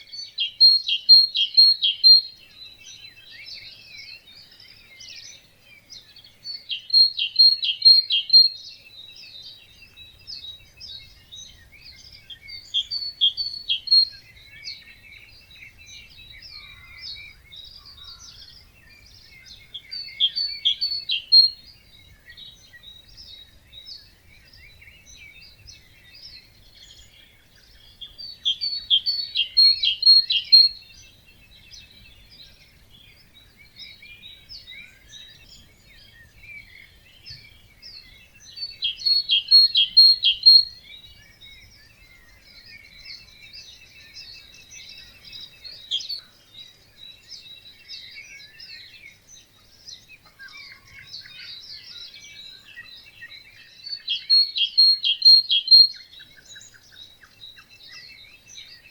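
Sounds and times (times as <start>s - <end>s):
bird singing rapid repeated notes: 0.0s - 58.9s
songbirds singing: 0.0s - 58.9s.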